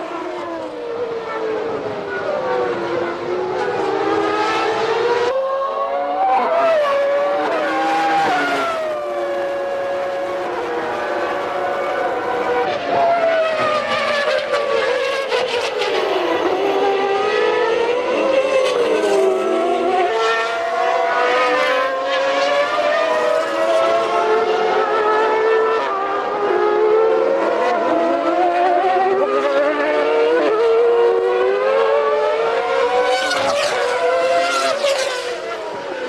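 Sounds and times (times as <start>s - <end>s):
race car engines at high revs: 0.0s - 36.0s.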